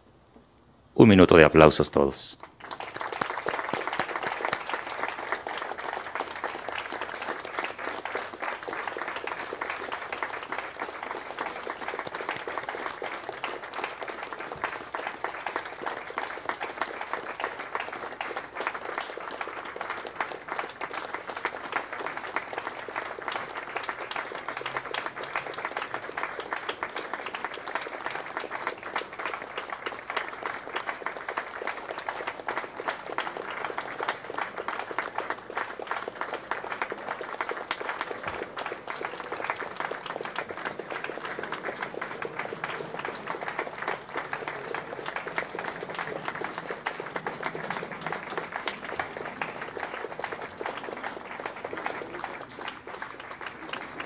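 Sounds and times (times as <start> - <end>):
crowd applauding: 1.0 - 54.0.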